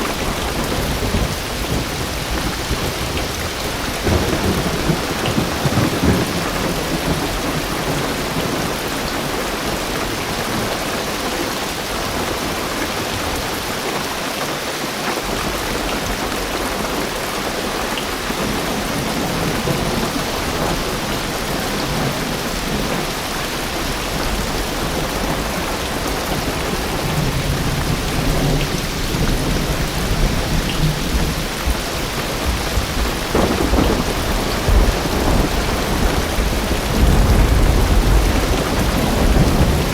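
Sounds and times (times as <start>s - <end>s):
low thunder rumbling: 0.0s - 10.8s, 18.1s - 39.9s
heavy rain on car roof: 0.0s - 39.9s.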